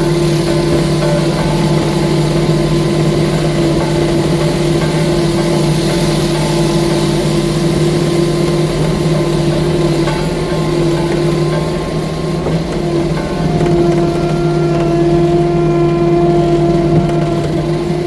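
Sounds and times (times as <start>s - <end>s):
track loader engine running: 0.0s - 18.0s.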